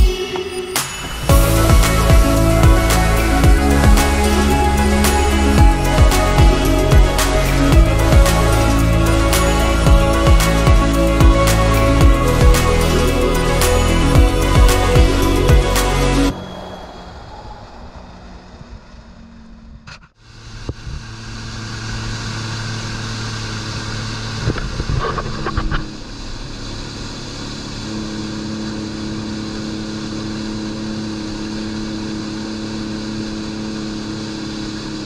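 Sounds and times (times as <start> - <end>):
personal watercraft engine drone: 0.0 - 35.0.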